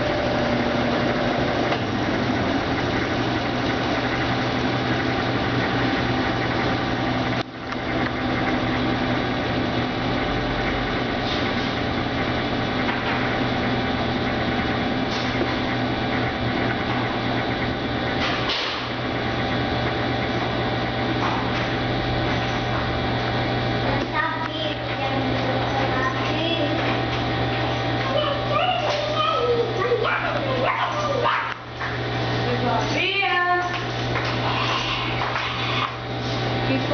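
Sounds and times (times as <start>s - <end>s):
washing machine spinning: 0.0s - 36.9s.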